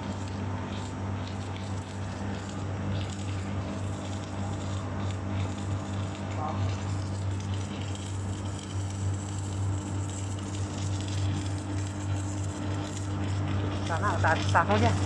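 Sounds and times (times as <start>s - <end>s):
electric arc crackling: 0.0s - 15.0s
welding machine hum: 0.0s - 15.0s.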